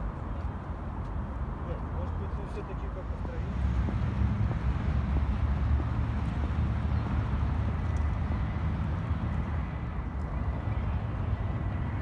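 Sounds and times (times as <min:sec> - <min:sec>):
faint city background: 0:00.0 - 0:12.0.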